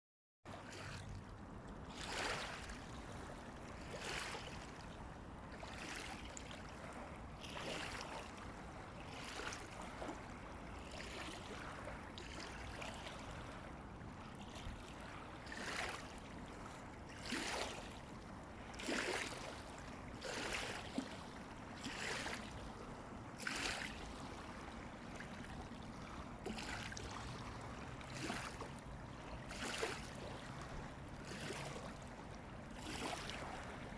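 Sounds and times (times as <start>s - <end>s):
small waves lapping: 0.5s - 33.9s.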